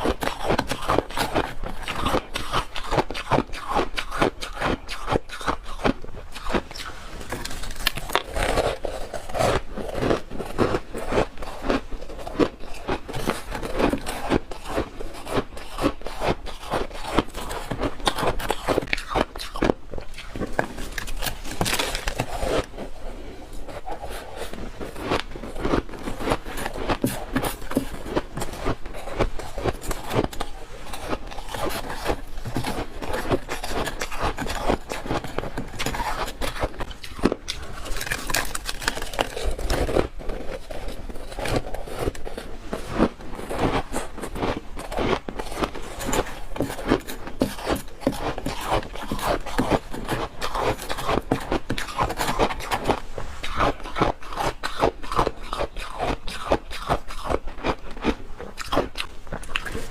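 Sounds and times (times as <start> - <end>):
frost being chewed with crunches: 0.0 - 59.9.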